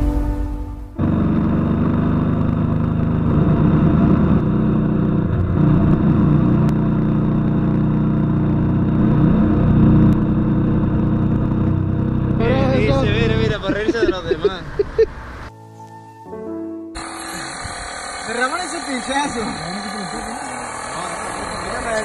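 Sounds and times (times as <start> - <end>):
motorcycle engine running: 0.0 - 14.2, 17.0 - 22.0.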